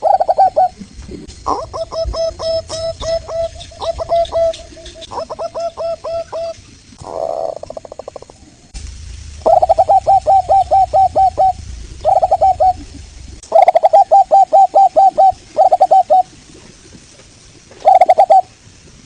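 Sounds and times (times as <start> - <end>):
dove cooing: 0.0 - 8.3, 9.5 - 16.4, 17.8 - 18.5.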